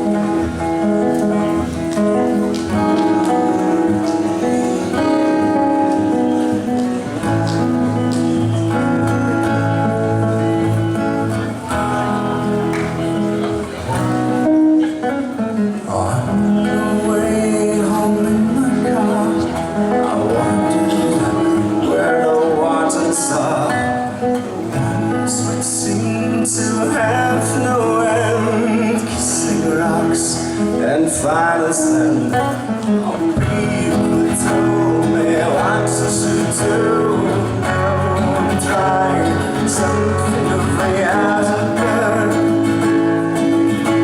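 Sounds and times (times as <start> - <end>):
acoustic guitar chords: 0.0 - 44.0.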